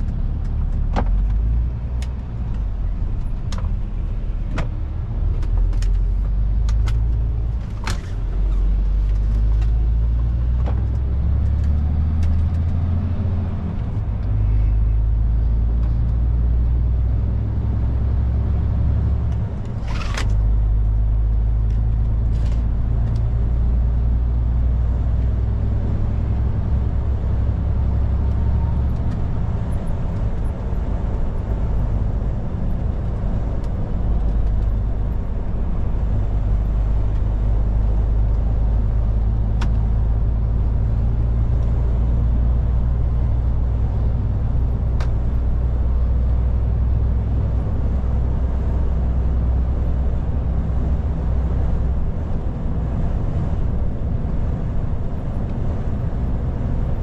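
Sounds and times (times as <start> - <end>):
truck diesel engine accelerating: 0.0 - 57.0.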